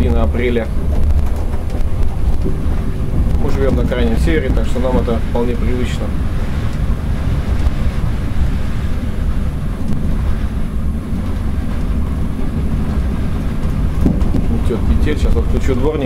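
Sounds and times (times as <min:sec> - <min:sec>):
train cab low rumble: 0:00.0 - 0:16.0.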